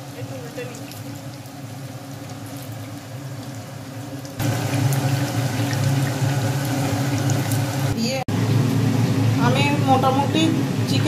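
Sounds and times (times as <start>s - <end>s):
chicken frying in oil: 0.0s - 9.3s.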